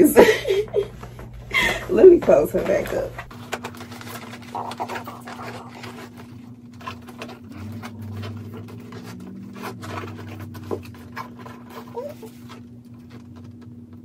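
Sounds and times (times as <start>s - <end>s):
bag rustling: 0.0s - 13.6s.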